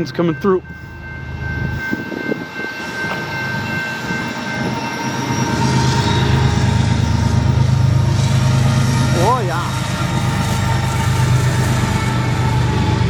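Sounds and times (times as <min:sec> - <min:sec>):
diesel train engine rumble: 0:00.0 - 0:13.0.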